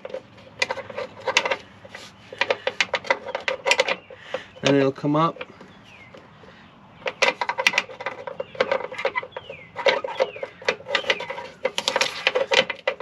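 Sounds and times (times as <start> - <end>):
bolt clicking and rattling in metal: 0.0 - 6.2, 7.0 - 13.0.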